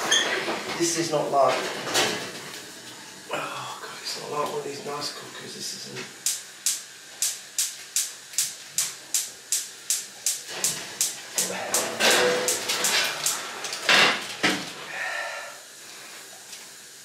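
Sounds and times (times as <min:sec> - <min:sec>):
gas rushing hiss: 0:02.3 - 0:17.0.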